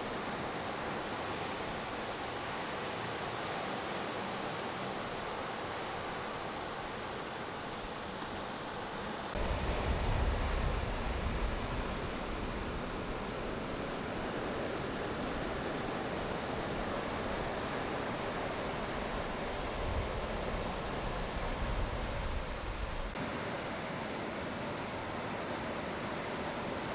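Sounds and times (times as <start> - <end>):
deep rumble of surf: 0.0 - 26.9
ocean waves breaking on beach: 0.0 - 26.9.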